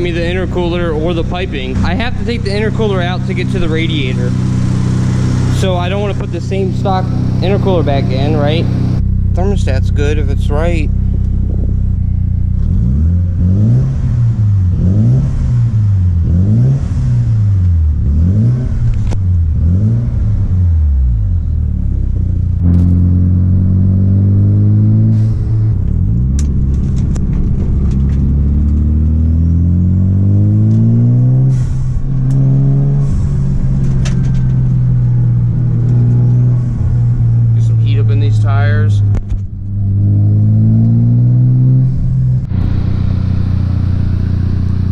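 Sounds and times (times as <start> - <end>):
rotary engine revving: 0.0 - 21.3, 22.6 - 44.9.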